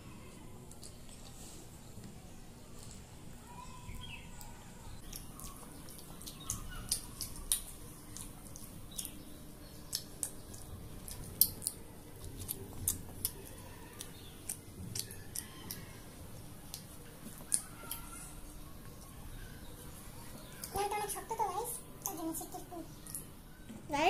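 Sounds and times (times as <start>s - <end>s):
chewing and crackly smacks: 0.2s - 23.6s.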